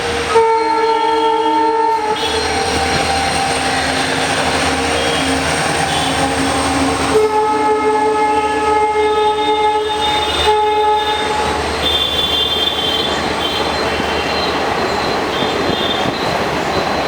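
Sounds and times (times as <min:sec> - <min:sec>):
locomotive horn blast: 0:00.0 - 0:14.5
train rumbling: 0:00.0 - 0:17.0.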